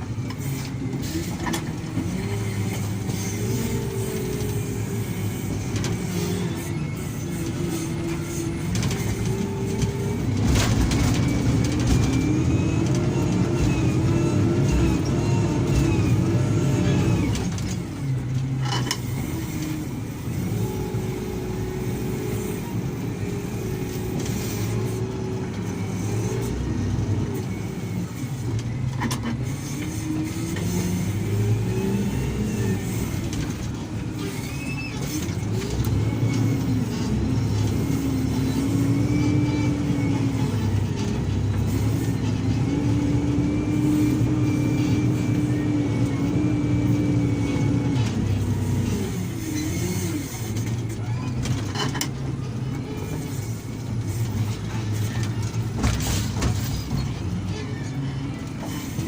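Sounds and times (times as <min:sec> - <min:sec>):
heavy diesel engines working: 0:00.0 - 0:59.0.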